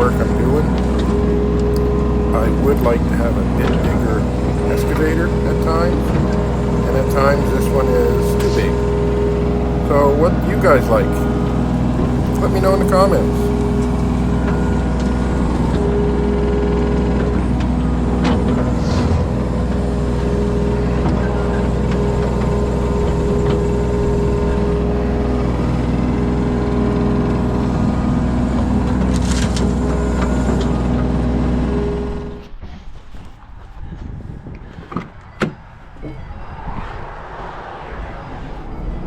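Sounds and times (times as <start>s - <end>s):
diesel engine running: 0.0s - 32.5s.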